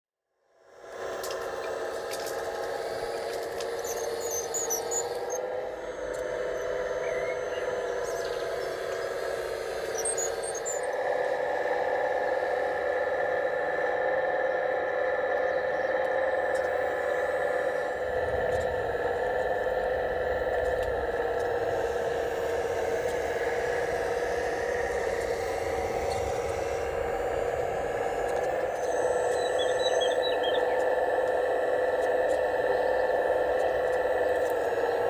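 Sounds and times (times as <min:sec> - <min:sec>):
electric motor whining: 0:00.7 - 0:35.0.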